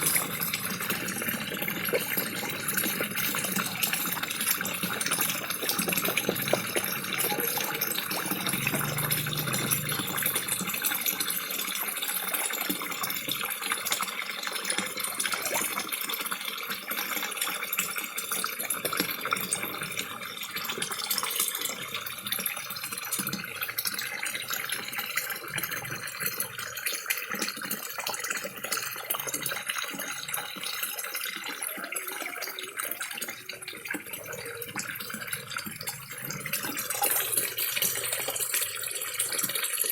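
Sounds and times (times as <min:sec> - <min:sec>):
fish feeding clicks and smacks: 0:00.0 - 0:39.9
small waterfall splashing into pond: 0:00.0 - 0:39.9.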